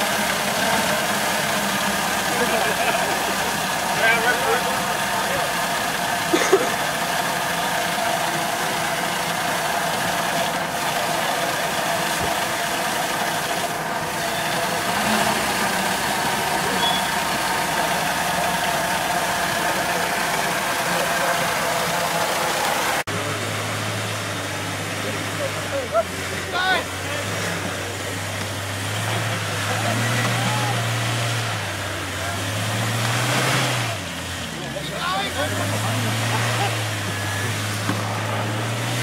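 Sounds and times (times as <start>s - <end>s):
engine running at low revs: 0.0s - 39.0s.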